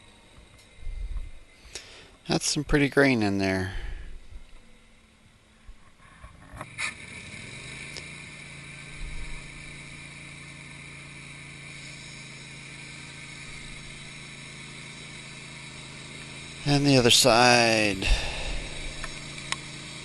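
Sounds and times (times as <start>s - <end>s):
sawmill engine idling: 0.0s - 5.7s, 6.6s - 20.0s.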